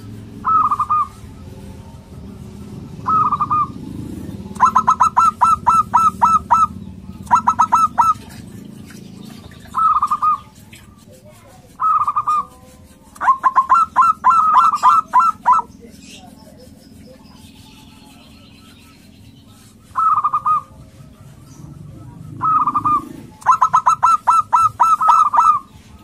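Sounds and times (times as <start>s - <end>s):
dove staccato cooing trill: 0.0s - 26.0s.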